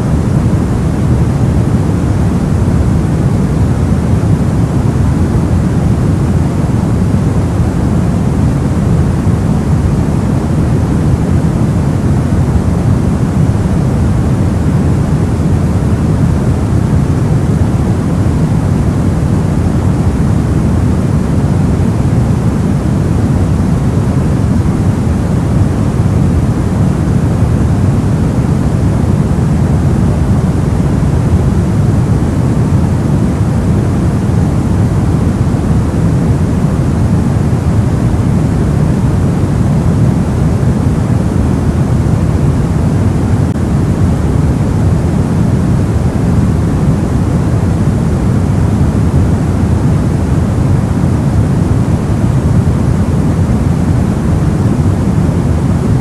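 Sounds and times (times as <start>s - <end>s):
low white noise hiss: 0.0s - 56.0s.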